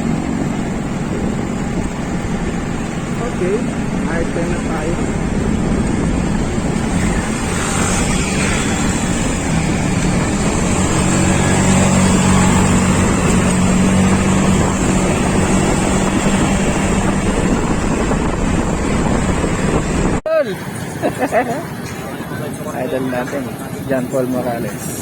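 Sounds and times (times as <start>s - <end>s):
wind noise on microphone: 0.0s - 21.2s
vehicle engine humming: 0.0s - 25.0s.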